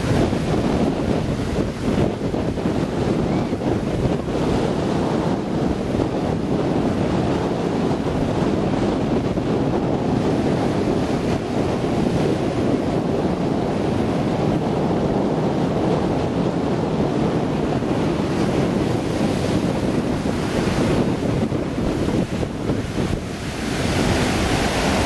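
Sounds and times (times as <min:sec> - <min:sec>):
ocean surf breaking: 0:00.0 - 0:25.0
wind buffeting microphone: 0:00.0 - 0:25.0.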